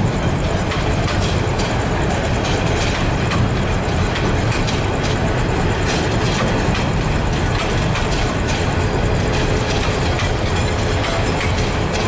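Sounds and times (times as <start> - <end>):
train wheels rumbling on rail: 0.0 - 12.0
wheels clicking over rail joints: 0.0 - 12.0.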